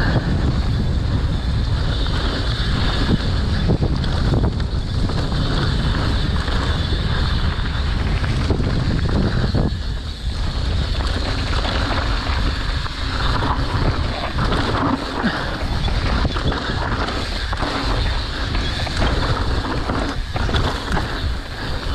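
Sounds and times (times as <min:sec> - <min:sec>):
mountain bike on dirt trail: 0:00.0 - 0:21.9
wind buffeting microphone: 0:00.0 - 0:21.9
bike knocks and rattles: 0:00.1 - 0:21.9.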